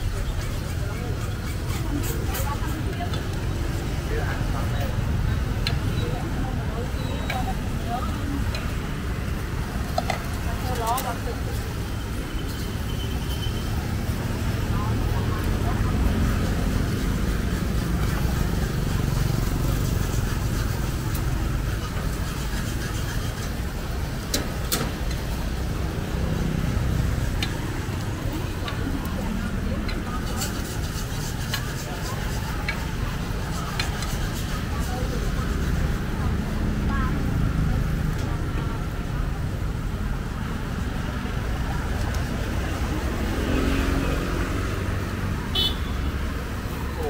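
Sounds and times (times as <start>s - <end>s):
faint voices: 0.0s - 47.0s
road traffic rumble: 0.0s - 47.0s.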